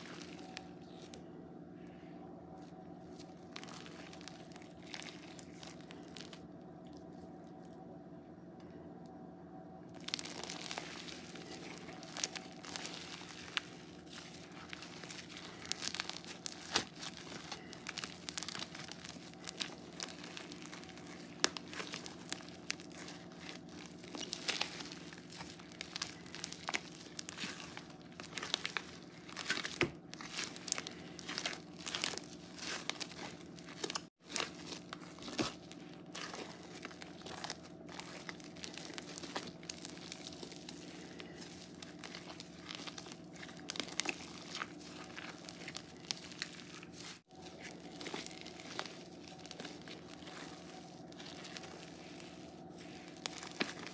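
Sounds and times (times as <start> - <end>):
crunchy slime being squeezed: 0.0 - 1.2, 2.6 - 7.7, 9.9 - 53.9.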